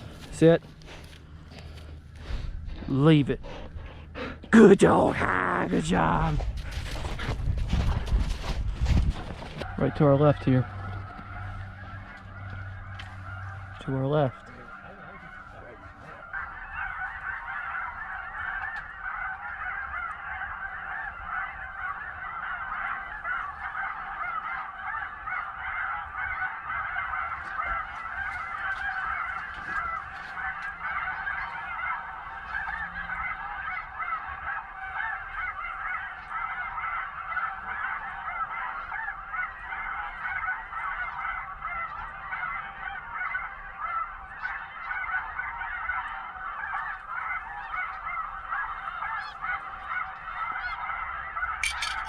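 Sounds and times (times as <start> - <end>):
flock of geese honking: 0.0 - 52.0.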